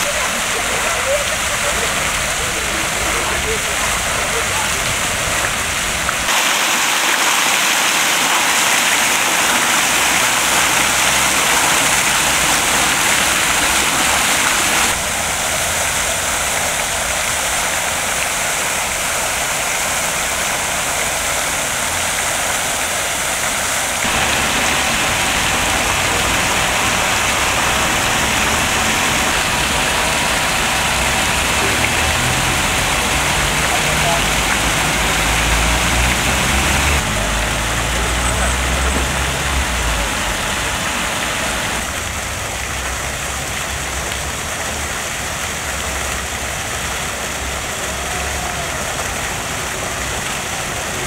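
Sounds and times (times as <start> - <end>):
fountain jet splashing into basin: 0.0 - 51.0
water spilling over stone rim: 0.0 - 51.0.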